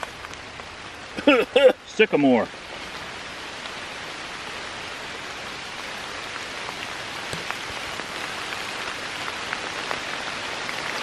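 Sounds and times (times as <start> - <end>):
gentle rain falling: 0.0 - 11.0.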